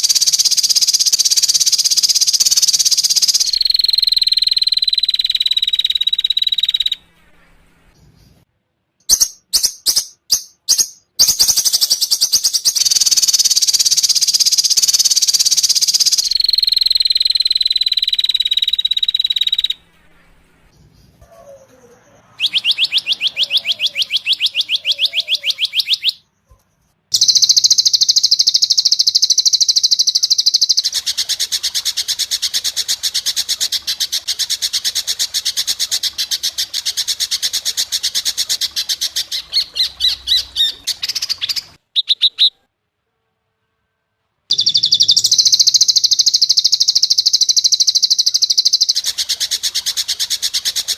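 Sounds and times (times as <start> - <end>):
songbird trills and chirps: 0.0 - 7.1, 9.0 - 19.9, 20.8 - 42.6, 44.5 - 50.9.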